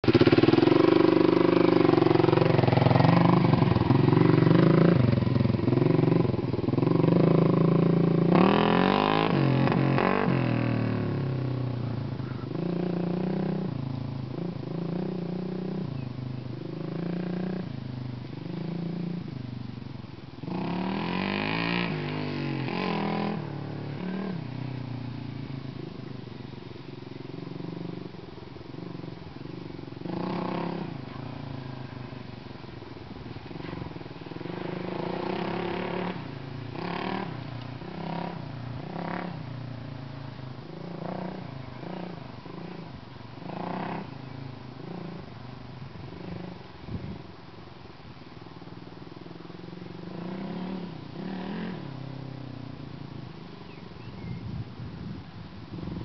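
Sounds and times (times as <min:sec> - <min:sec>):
dirt bike engine revving: 0:00.0 - 0:19.3, 0:20.4 - 0:47.0, 0:49.3 - 0:52.7.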